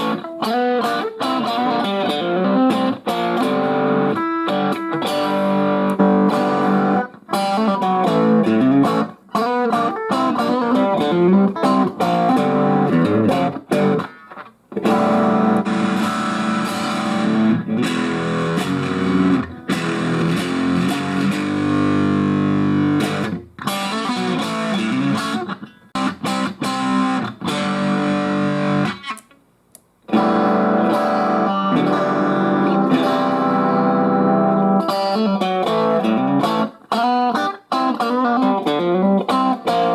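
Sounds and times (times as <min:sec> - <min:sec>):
electric guitar through amp: 0:00.0 - 0:29.4, 0:30.1 - 0:39.9.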